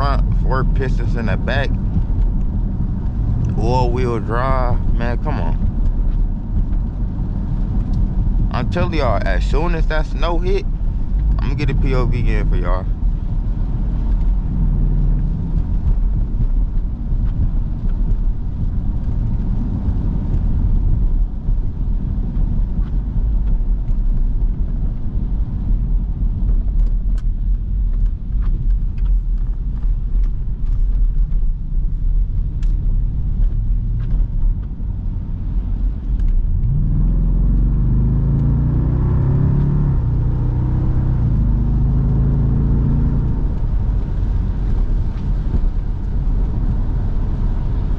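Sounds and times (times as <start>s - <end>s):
car engine rumble: 0.0s - 47.9s
road noise: 0.0s - 47.9s.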